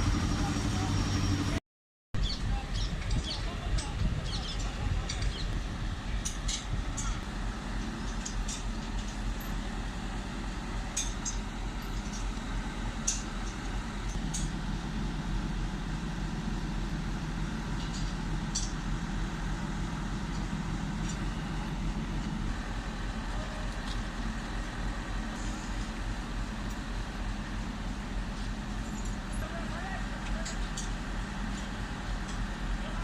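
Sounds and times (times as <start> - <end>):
engine running: 0.0 - 1.6, 2.4 - 33.0.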